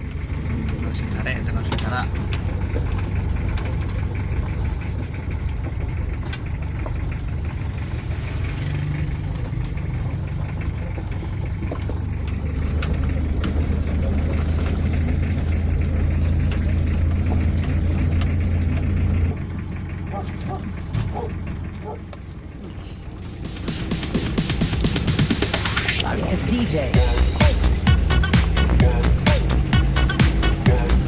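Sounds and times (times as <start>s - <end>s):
tyres on gravel road: 0.0s - 31.0s
vehicle engine running: 0.0s - 31.0s.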